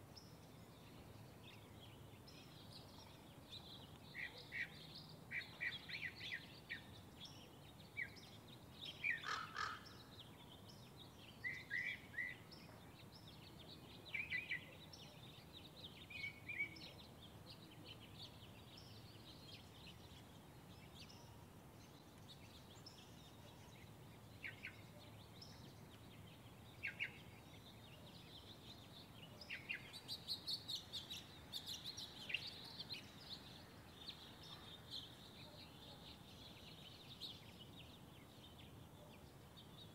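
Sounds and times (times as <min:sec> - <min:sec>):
faint outdoor background noise: 0:00.0 - 0:39.9
birds chirping: 0:00.2 - 0:39.9.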